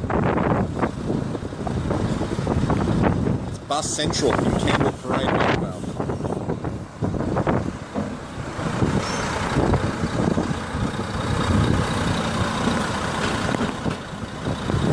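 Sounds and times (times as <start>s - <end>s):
bus engines rumbling: 0.0s - 14.9s.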